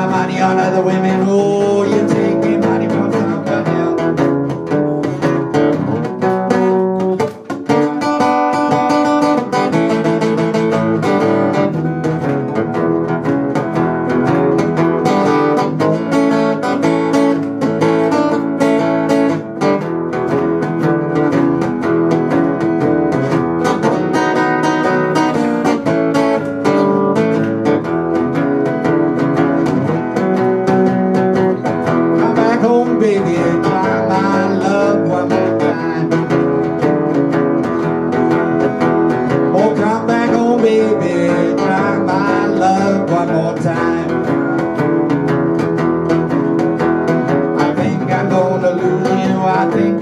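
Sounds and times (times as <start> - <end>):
acoustic guitar playing blues: 0.0 - 50.0.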